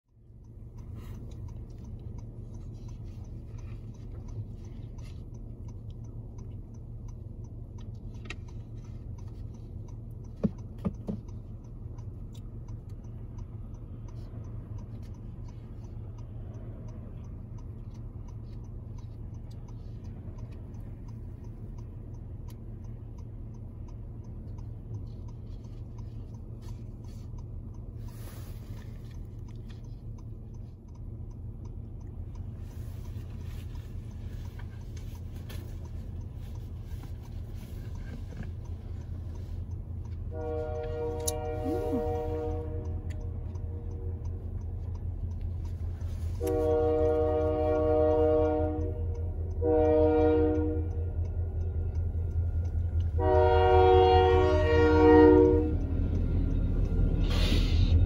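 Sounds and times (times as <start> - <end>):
faint regular ticking: 0.0 - 58.0
distant road traffic: 0.1 - 58.0
diesel freight train: 11.4 - 58.0.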